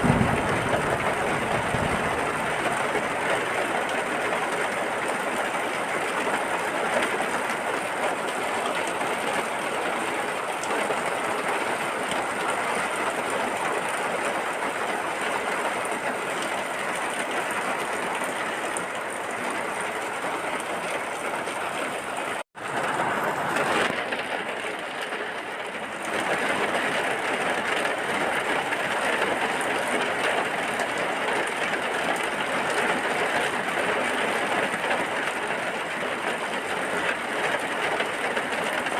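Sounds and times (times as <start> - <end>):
heavy rain hissing: 0.0 - 31.8.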